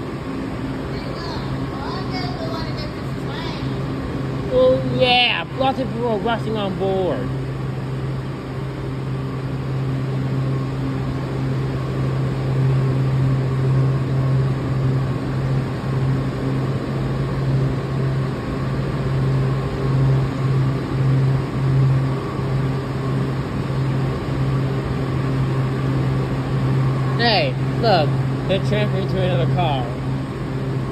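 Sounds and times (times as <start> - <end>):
train electrical hum: 0.0 - 30.9.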